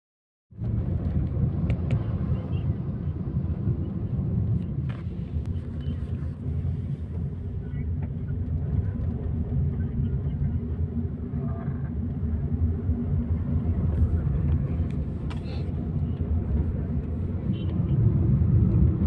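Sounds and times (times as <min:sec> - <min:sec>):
car engine and road noise: 0:00.5 - 0:19.0.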